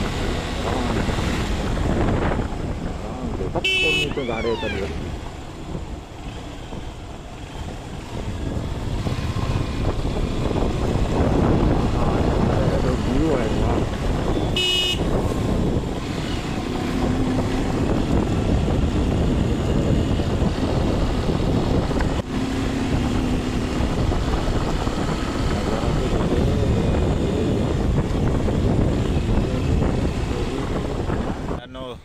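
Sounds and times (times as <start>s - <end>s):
wind buffeting microphone: 0.0s - 3.7s, 4.6s - 32.0s.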